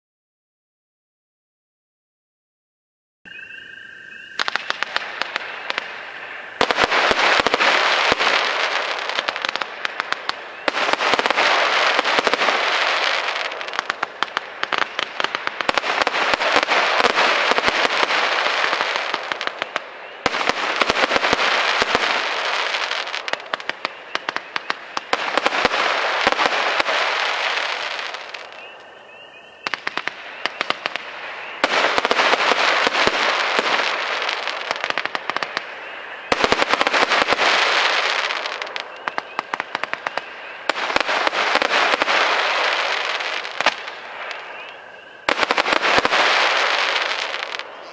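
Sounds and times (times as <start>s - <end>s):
fireworks crackling: 4.4s - 29.0s, 29.6s - 47.9s.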